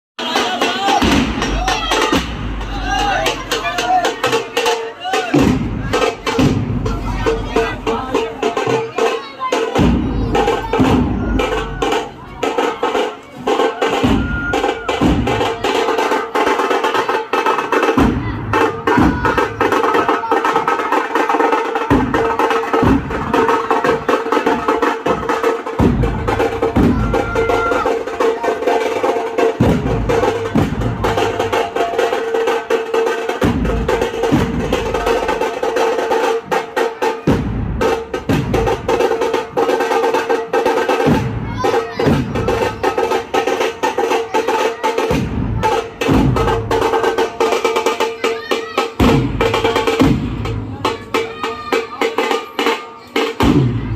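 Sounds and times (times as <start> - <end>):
fast drum rolls: 0.2 - 53.9
heavy bass drum beats: 0.2 - 53.9.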